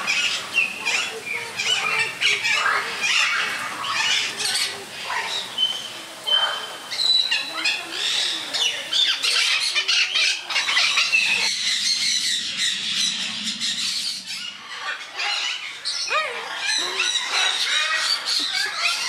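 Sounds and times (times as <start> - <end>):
cockatoos squawking and screeching: 0.0 - 19.0.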